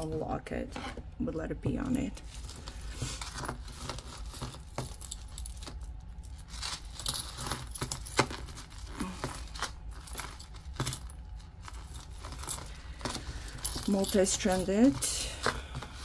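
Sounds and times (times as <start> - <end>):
metal jewelry chains clinking: 2.1 - 16.0.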